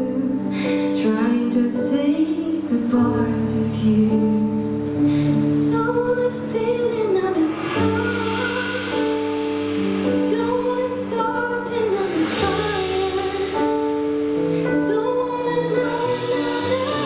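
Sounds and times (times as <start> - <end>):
piano chords: 0.0 - 17.0
woman singing ballad: 0.0 - 17.0.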